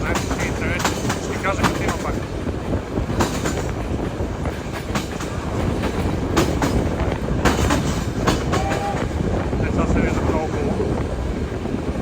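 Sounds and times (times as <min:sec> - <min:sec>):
wheels clicking over rail joints: 0:00.0 - 0:11.2
railway carriage rumbling on track: 0:00.0 - 0:12.0.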